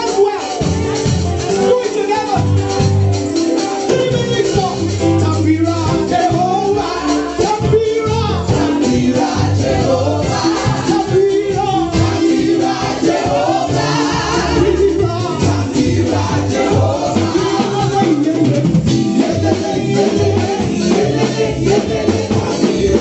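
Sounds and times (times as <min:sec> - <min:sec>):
band with drums and bass: 0:00.0 - 0:23.0
gospel singing: 0:00.0 - 0:23.0.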